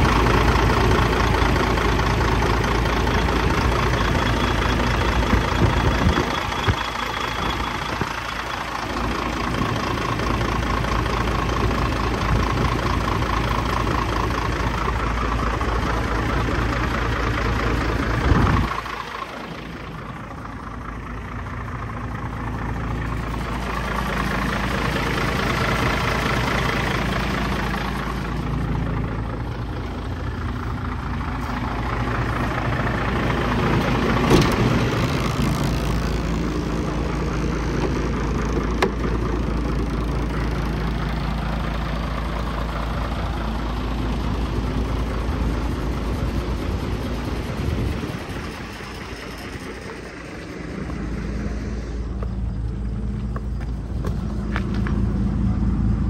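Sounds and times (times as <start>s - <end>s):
diesel truck idling: 0.0s - 56.0s.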